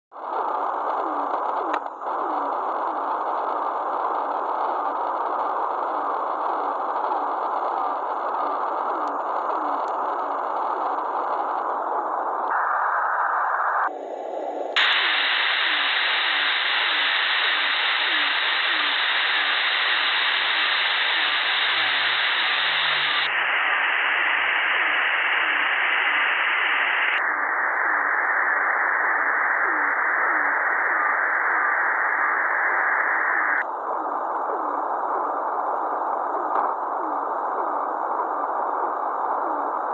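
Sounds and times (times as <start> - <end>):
radio hiss: 0.1 - 39.9.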